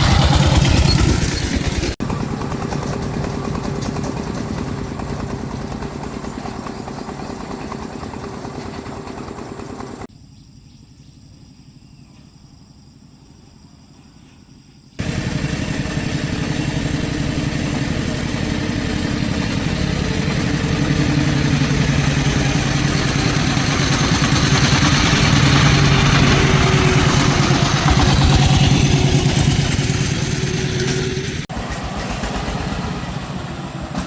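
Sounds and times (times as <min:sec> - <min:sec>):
engine running: 0:00.0 - 0:10.1, 0:15.0 - 0:34.0.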